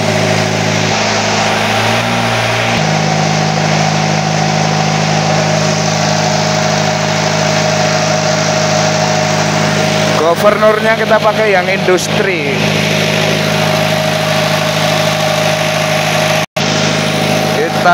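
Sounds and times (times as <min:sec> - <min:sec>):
diesel generator running: 0:00.0 - 0:17.9.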